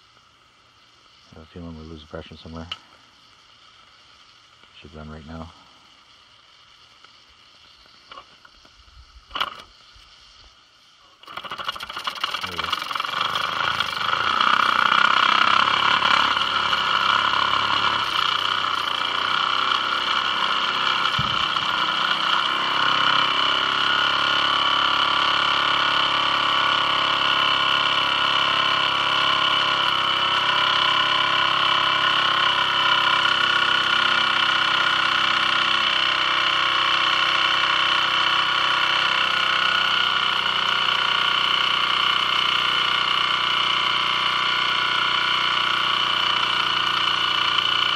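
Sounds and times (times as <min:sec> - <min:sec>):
toy steam engine whirring hiss: 0:00.0 - 0:47.9.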